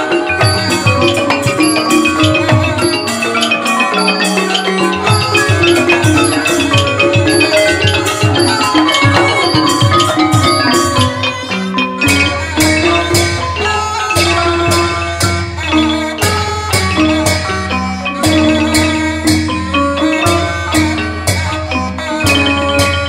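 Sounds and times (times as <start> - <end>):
drum strokes: 0.0 - 23.0
xylophones and gong circle: 0.0 - 23.0.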